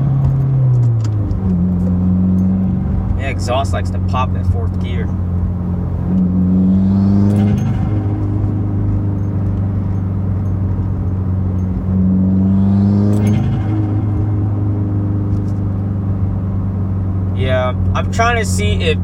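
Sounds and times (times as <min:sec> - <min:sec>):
car engine drone in cabin: 0:00.0 - 0:19.0
engine revving: 0:00.0 - 0:19.0.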